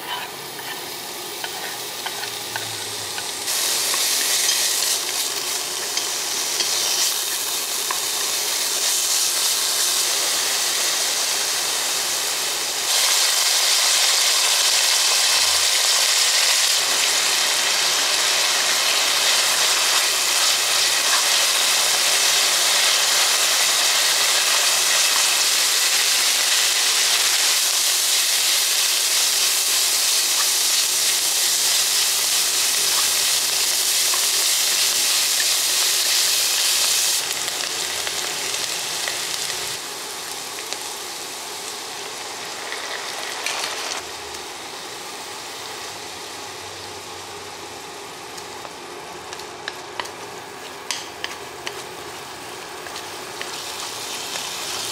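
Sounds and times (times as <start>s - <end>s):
meat and onion sizzling in oil: 0.0s - 54.9s.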